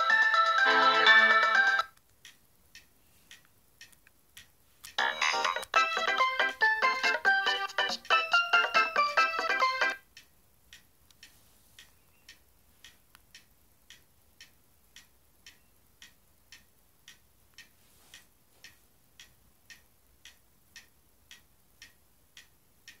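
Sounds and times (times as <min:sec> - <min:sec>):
clock ticking: 0:00.0 - 0:23.0.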